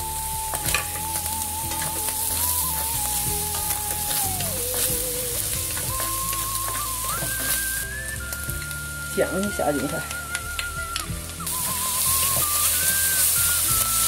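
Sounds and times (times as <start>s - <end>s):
food sizzling in pan: 0.0s - 14.0s
slow melodic background music: 0.0s - 14.0s.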